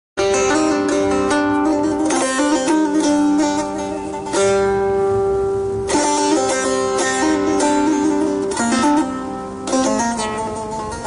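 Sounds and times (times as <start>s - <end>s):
plucked lute notes: 0.2s - 11.0s.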